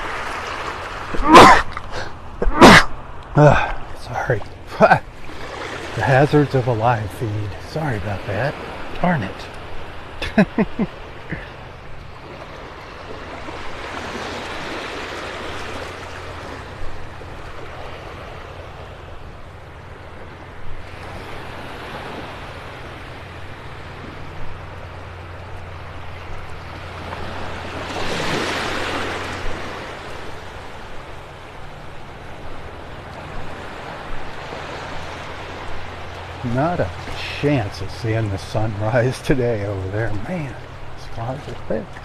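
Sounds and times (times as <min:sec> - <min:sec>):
small waves washing: 0:00.0 - 0:42.0
steady low hum: 0:01.0 - 0:13.9, 0:15.4 - 0:42.0.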